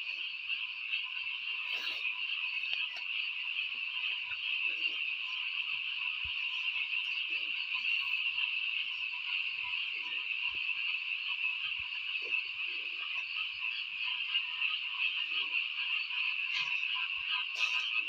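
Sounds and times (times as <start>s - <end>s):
frog chorus: 0.0s - 18.0s
low frog croaks: 0.0s - 18.0s.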